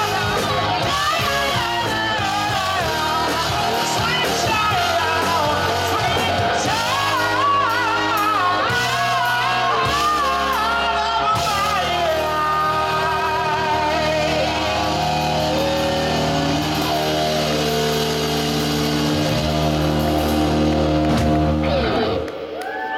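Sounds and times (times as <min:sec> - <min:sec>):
person singing: 0:00.0 - 0:20.7
rock band playing: 0:00.0 - 0:22.6.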